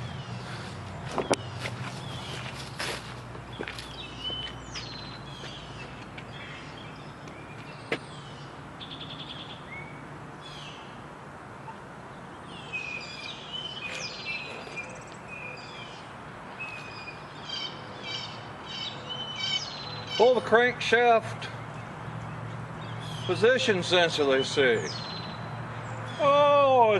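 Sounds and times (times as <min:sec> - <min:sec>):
songbirds chirping and singing: 0:00.0 - 0:11.0, 0:11.7 - 0:26.9.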